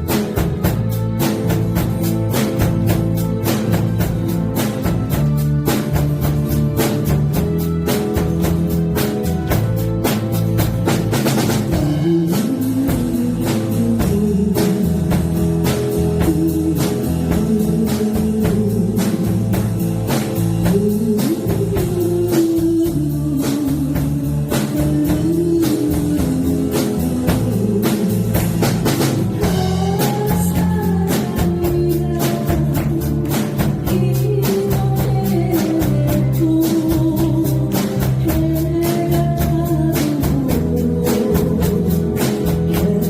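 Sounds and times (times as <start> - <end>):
bass guitar: 0.0 - 43.0
drum kit beat: 0.0 - 43.0.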